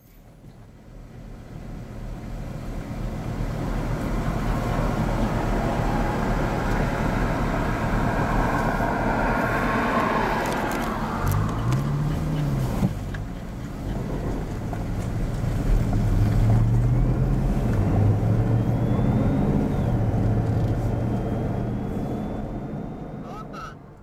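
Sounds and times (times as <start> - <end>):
engine revving: 3.3 - 24.0.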